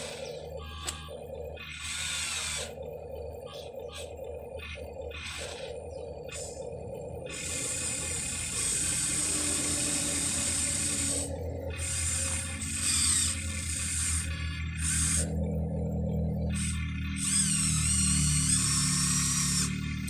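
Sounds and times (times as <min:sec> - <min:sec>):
toy electric motors whirring: 0:00.0 - 0:20.0.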